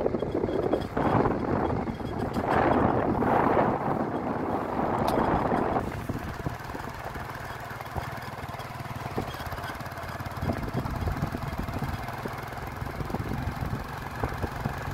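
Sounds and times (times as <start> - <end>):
engine idling with clatter: 0.0 - 14.9.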